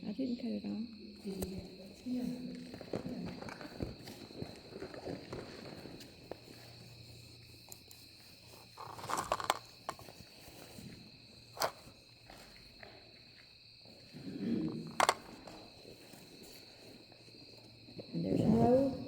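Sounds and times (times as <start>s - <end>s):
scuffle: 1.2s - 19.0s
footsteps: 1.4s - 17.9s.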